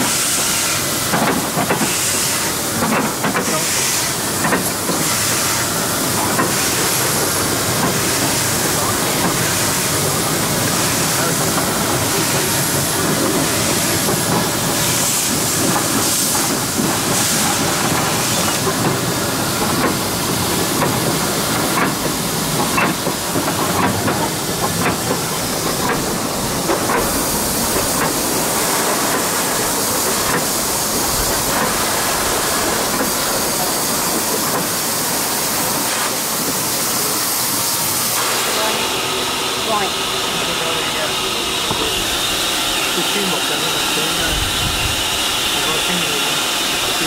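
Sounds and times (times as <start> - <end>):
locomotive engine running: 0.0 - 47.0
steam hissing: 0.0 - 47.0.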